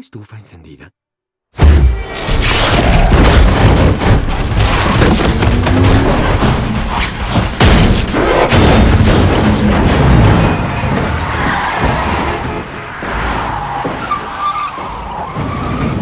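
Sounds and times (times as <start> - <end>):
vehicle crash impacts: 1.6 - 16.0.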